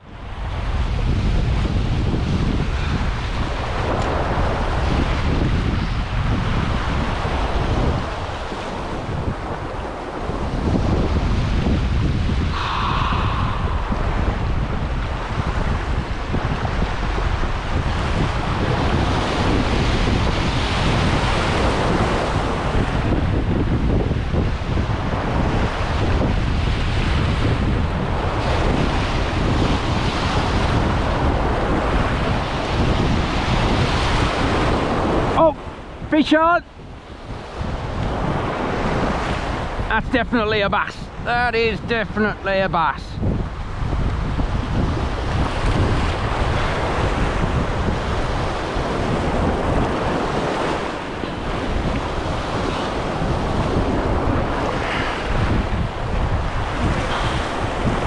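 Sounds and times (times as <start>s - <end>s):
surf washing over rocks: 0.0s - 58.0s
wind noise on microphone: 0.0s - 58.0s.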